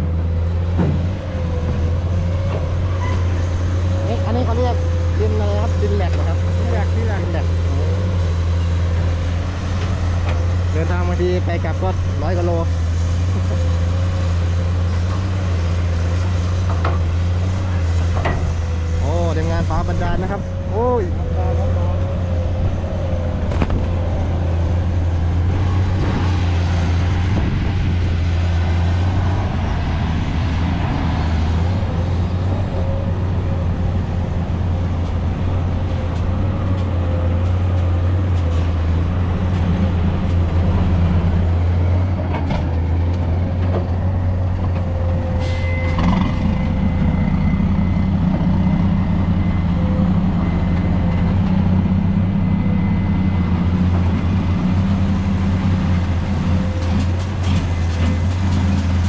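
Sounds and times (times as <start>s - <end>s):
truck engine droning: 0.0s - 59.0s.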